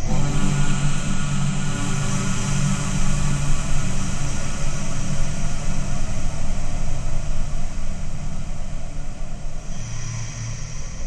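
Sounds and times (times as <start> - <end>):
low drone: 0.0 - 11.0.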